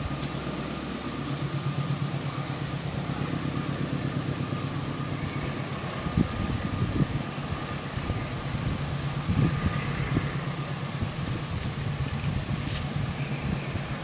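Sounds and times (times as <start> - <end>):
engine running with low throb: 0.0 - 14.0.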